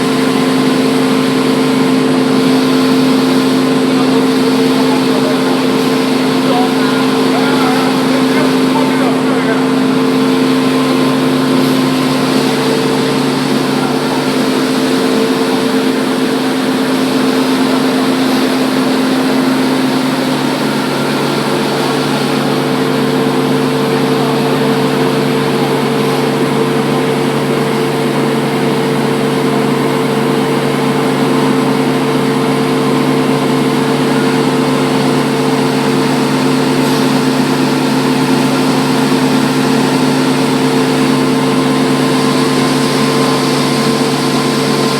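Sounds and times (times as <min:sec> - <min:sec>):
belt sander running: 0:00.0 - 0:44.9.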